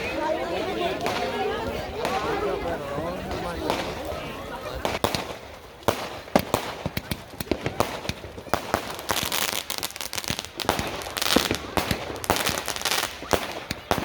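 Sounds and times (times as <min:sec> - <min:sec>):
fireworks crackling: 0:00.0 - 0:14.0
fireworks bangs and pops: 0:01.0 - 0:14.0.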